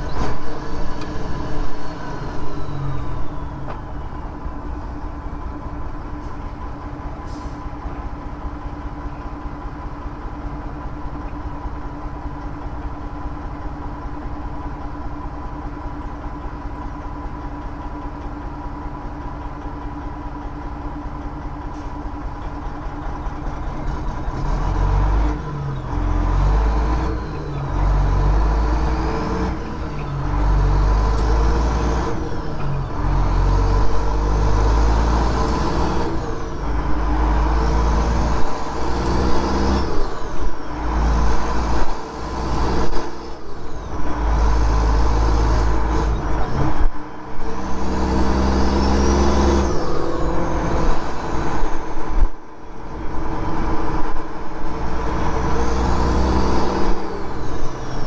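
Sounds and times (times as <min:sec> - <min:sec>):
truck diesel engine pulling: 0:00.0 - 0:58.0.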